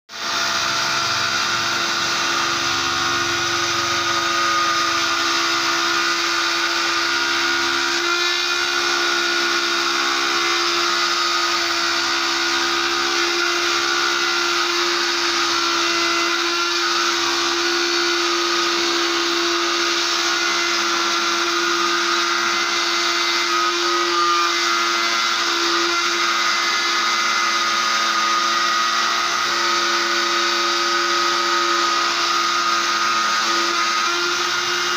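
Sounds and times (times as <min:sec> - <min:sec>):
cnc machine running: 0:00.1 - 0:34.9
spindle motor whine: 0:00.1 - 0:34.9.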